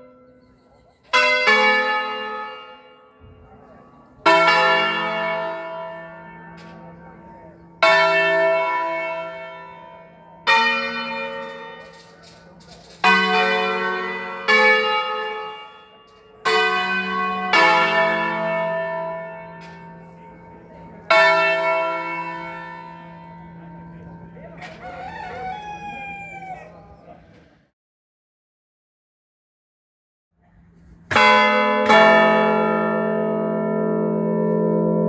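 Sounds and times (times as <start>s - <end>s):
church bells ringing: 0.0s - 26.6s, 30.6s - 35.0s.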